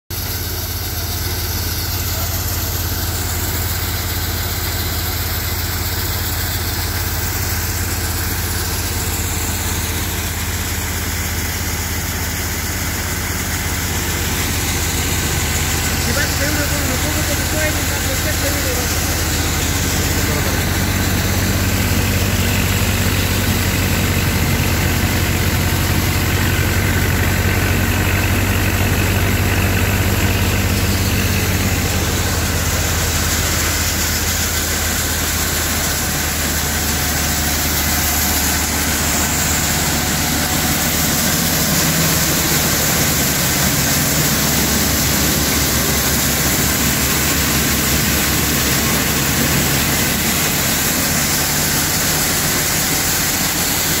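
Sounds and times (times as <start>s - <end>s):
threshing drum and fans whirring: 0.1s - 54.0s
tractor engine drone under load: 0.1s - 54.0s.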